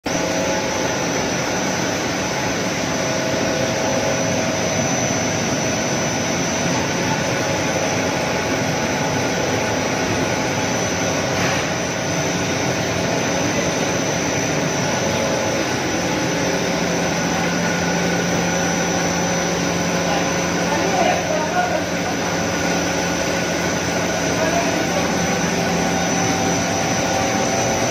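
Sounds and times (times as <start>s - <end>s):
extruder machine whine: 0.1s - 27.9s
low machine hum: 0.1s - 27.9s.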